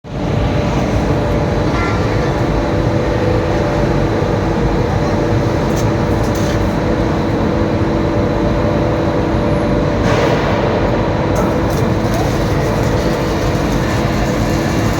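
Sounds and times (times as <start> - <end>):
industrial machinery running: 0.1 - 14.9.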